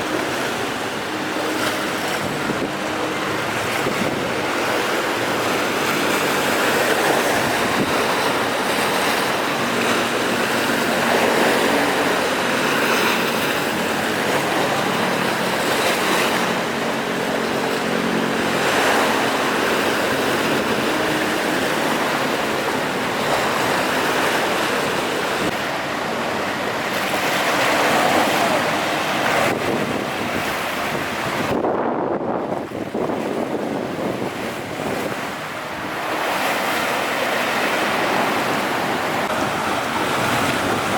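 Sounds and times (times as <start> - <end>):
waves crashing: 0.0 - 40.9
wind gusts on microphone: 0.0 - 40.9.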